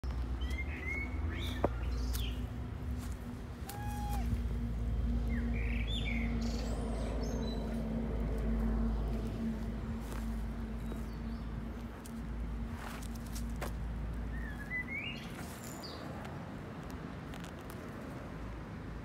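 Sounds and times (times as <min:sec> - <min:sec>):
small birds chirping: 0:00.0 - 0:04.3, 0:05.1 - 0:16.4
low hum and rumble: 0:00.0 - 0:19.0.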